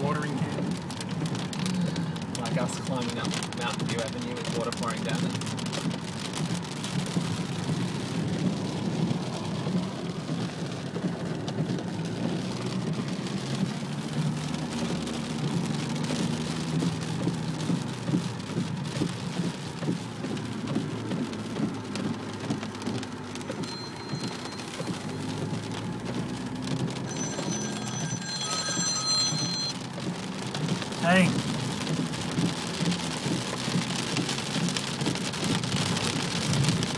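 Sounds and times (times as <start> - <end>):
heavy rain drumming on car roof: 0.0 - 36.9.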